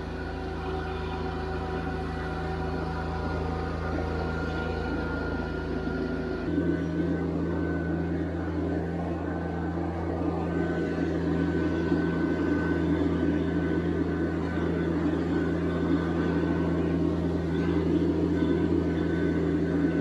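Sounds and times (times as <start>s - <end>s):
thin high whine: 0.0s - 20.0s
tractor diesel engine running: 0.0s - 20.0s.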